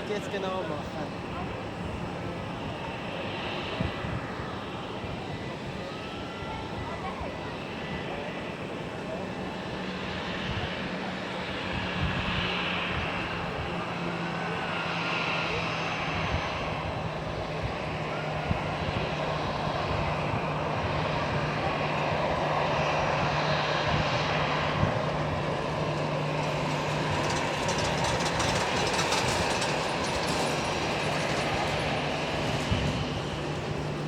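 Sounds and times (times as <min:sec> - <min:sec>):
turboprop engines running: 0:00.0 - 0:34.0.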